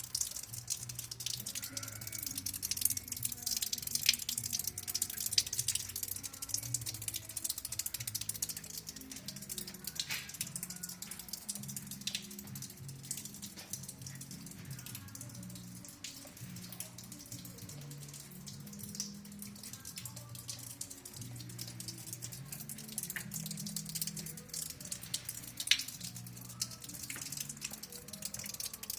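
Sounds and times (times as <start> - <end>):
water dripping: 0.0 - 28.9.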